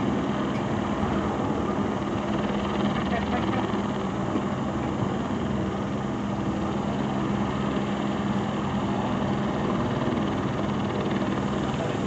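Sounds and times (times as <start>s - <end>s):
helicopter engine and rotor hum: 0.0s - 12.0s.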